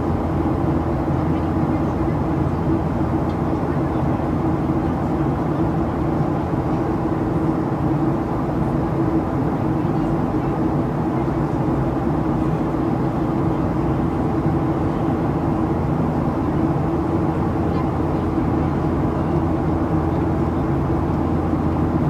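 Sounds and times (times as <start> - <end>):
jet engines droning: 0.0 - 22.0
steady low hums: 0.0 - 22.0.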